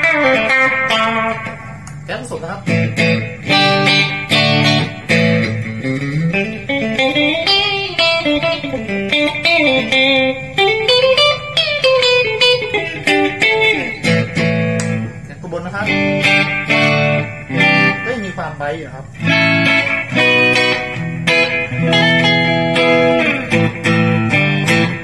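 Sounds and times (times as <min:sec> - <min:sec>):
electric guitar chords and lead: 0:00.0 - 0:25.0.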